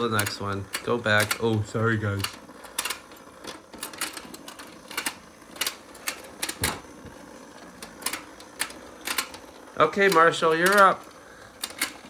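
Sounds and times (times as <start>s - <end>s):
plastic toys clicking and tapping: 0.0s - 12.0s.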